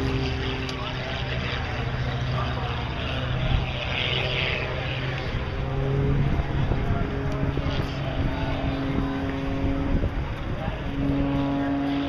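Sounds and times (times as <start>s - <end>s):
propeller airplane engine droning: 0.0s - 12.0s.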